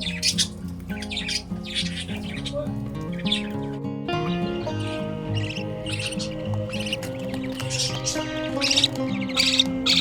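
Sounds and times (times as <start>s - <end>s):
background music melody: 0.0s - 10.0s
budgerigars chirping: 0.0s - 10.0s.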